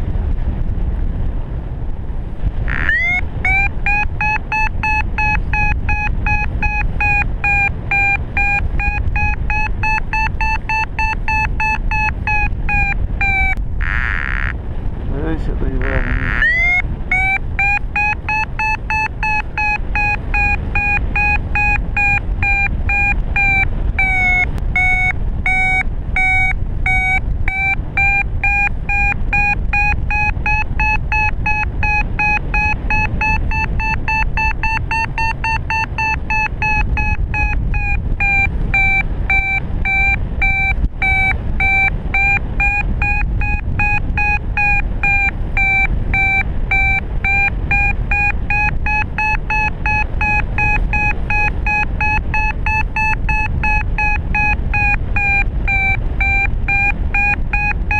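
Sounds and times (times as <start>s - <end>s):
wind rushing past microphone: 0.0s - 57.9s
variometer beeping: 2.5s - 57.9s.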